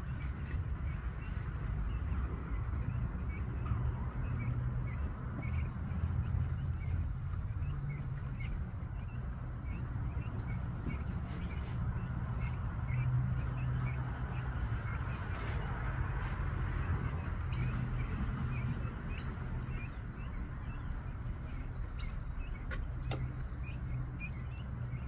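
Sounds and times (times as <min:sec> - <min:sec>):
chicks peeping: 0:00.0 - 0:25.0
steady low rumble: 0:00.0 - 0:25.0.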